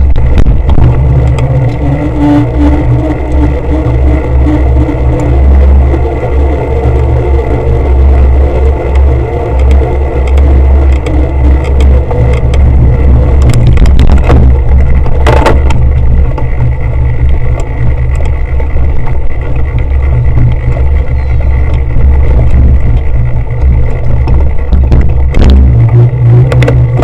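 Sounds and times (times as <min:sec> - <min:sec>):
wind rumble on camera: 0:00.0 - 0:27.0
bike rattling clicks: 0:02.5 - 0:27.0.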